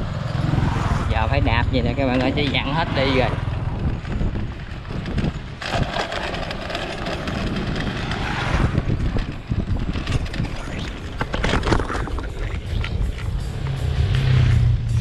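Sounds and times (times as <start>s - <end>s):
bicycle rattles and clicks: 0.0s - 14.4s
wind rumbling on microphone: 0.0s - 15.0s.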